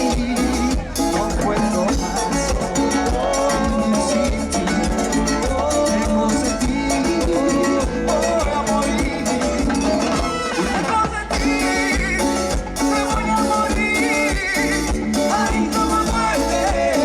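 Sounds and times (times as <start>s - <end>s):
latin dance orchestra playing: 0.0s - 17.0s.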